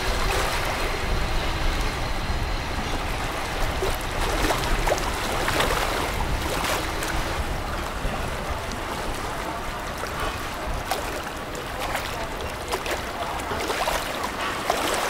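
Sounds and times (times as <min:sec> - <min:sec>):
rushing water: 0:00.0 - 0:15.0
tugboat engine rumble: 0:00.0 - 0:15.0.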